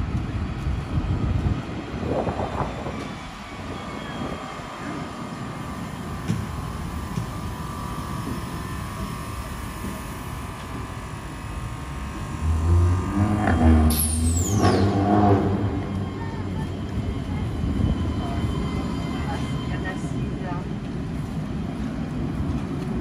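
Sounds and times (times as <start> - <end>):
tram rumbling: 0.0 - 23.0.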